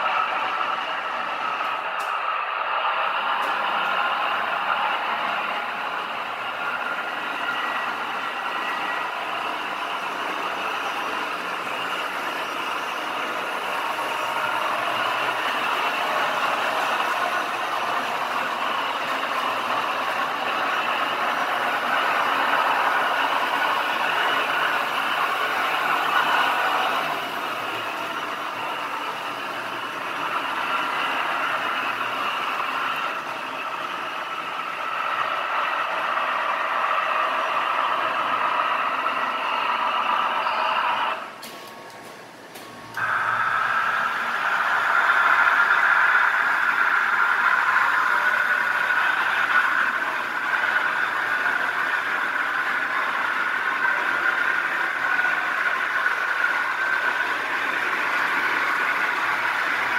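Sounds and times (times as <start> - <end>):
model trains rolling on track: 0.0 - 59.9.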